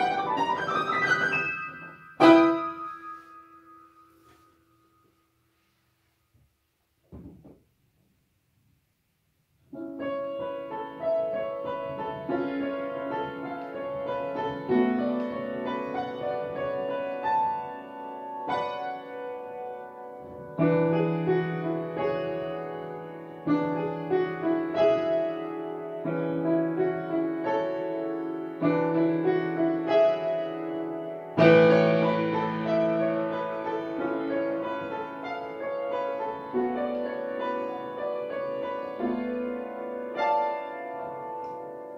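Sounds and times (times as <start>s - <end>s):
solo upright piano piece: 0.0s - 4.5s, 9.5s - 41.9s.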